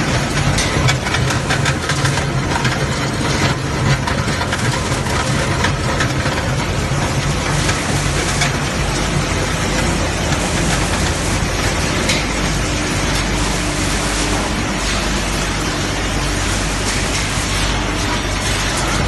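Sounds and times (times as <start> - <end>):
pellet mill machine hum: 0.0 - 19.0.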